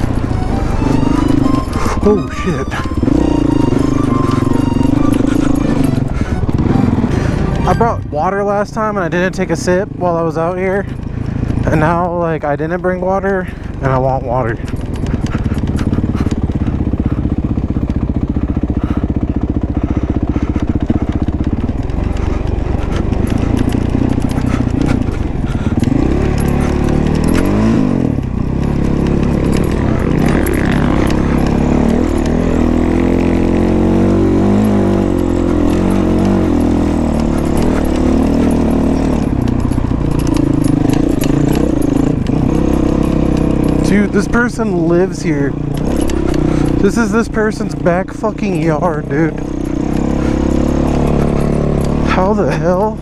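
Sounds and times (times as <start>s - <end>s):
bike rattling and knocking: 0.0s - 53.0s
dirt bike engine revving: 0.0s - 53.0s.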